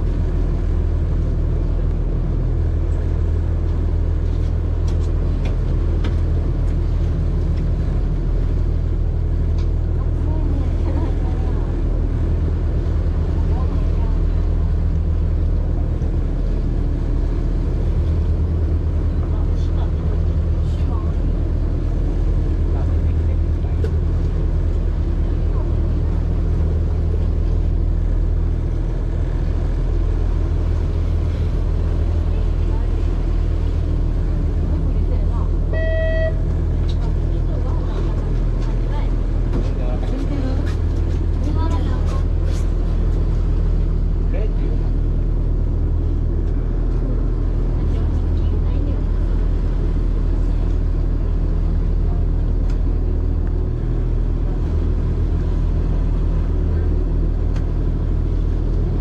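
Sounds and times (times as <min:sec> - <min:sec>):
boat engine droning: 0:00.0 - 0:59.0
hull splashing through choppy water: 0:00.0 - 0:59.0.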